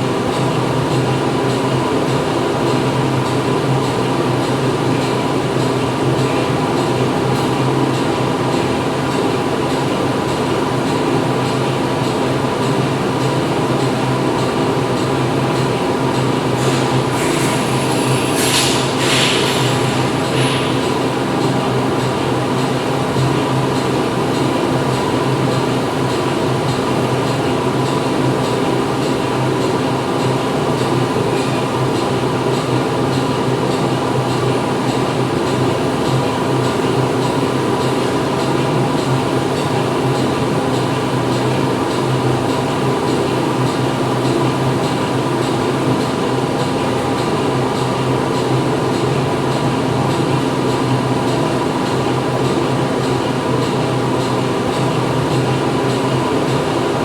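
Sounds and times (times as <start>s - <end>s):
factory machinery drone: 0.0s - 57.0s.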